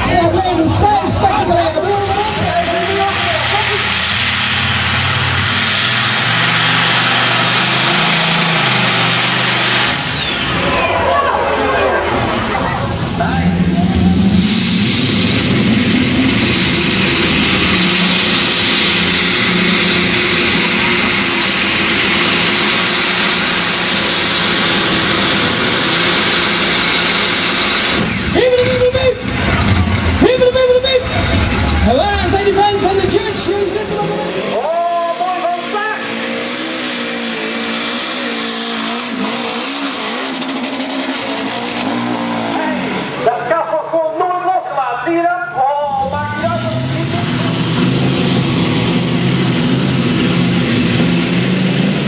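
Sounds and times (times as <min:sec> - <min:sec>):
loud rush of noise: 0:00.0 - 0:52.0
tractor engine at full power: 0:00.0 - 0:52.0.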